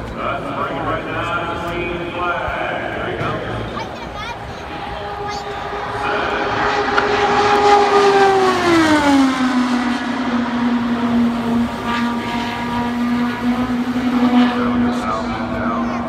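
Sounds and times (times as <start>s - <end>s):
race car engine passing by: 0.2s - 16.0s.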